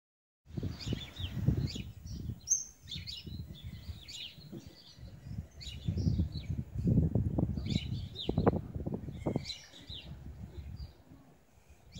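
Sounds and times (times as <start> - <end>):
small birds chirping: 0.5 - 11.9.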